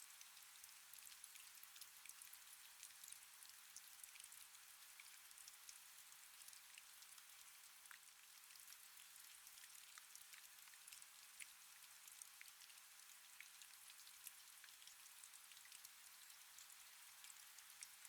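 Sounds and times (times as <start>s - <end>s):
faint steady rain: 0.0s - 18.0s.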